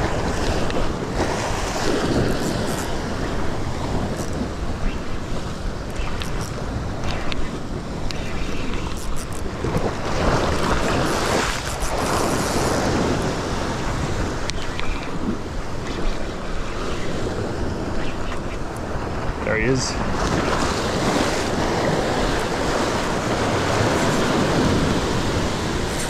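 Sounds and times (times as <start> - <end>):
ocean surf over rocks: 0.0 - 26.0
wind buffeting microphone: 0.0 - 26.0.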